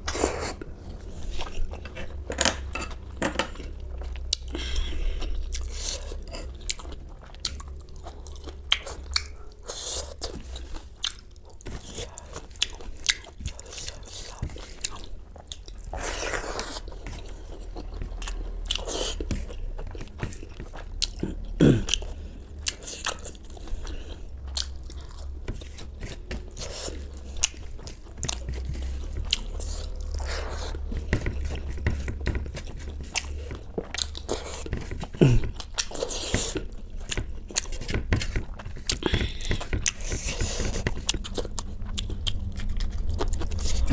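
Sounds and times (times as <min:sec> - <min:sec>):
crunchy chewing: 0:03.5 - 0:43.9.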